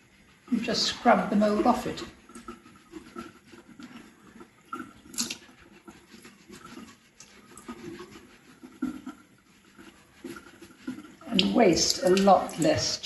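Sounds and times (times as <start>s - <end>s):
sponge scrubbing: 0.0s - 13.0s
tap water running into sink: 0.0s - 13.0s.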